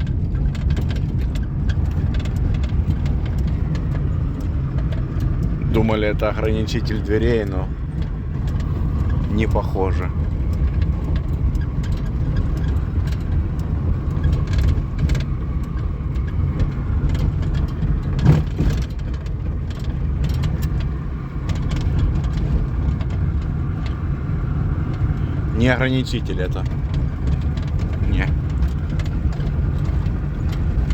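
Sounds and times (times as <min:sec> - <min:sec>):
dashboard rattle clicks and knocks: 0:00.0 - 0:30.9
road and engine rumble: 0:00.0 - 0:30.9.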